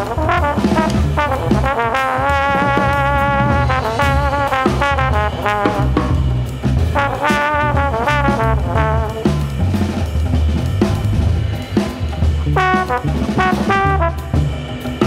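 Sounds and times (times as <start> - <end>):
drum kit: 0.0 - 15.0
trombone playing jazz: 0.0 - 15.0.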